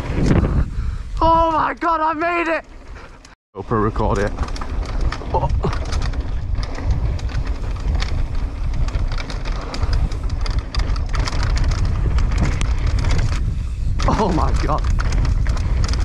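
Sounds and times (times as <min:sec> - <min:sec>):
wind buffeting microphone: 0:00.0 - 0:02.1, 0:02.8 - 0:16.0
tyres on dirt: 0:01.2 - 0:16.0.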